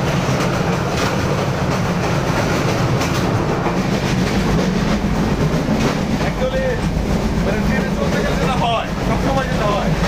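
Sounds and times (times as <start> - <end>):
train rumble from inside carriage: 0.0 - 10.0
wheels and coach rattling: 0.0 - 10.0.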